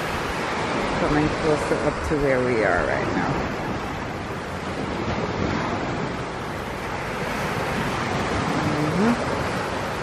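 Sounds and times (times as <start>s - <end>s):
waves washing up beach: 0.0s - 10.0s
wind buffeting microphone: 0.0s - 10.0s.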